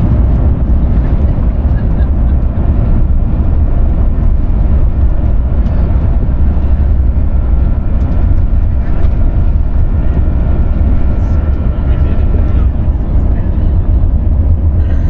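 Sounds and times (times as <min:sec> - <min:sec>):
airplane landing rumble: 0:00.0 - 0:15.0.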